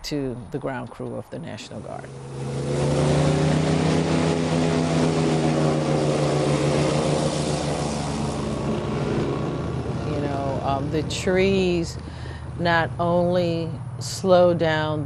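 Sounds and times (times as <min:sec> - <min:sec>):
airboat engine droning: 0:00.0 - 0:15.0.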